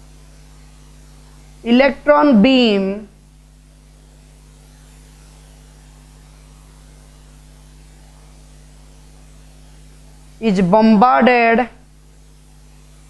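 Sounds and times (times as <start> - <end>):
electrical mains hum: 0.0 - 13.0
low hiss: 0.0 - 13.0.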